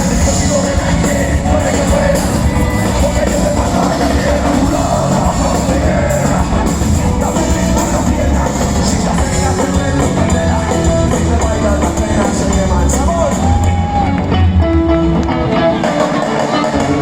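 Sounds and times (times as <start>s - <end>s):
person singing: 0.0s - 14.6s
live rock band playing: 0.0s - 17.0s.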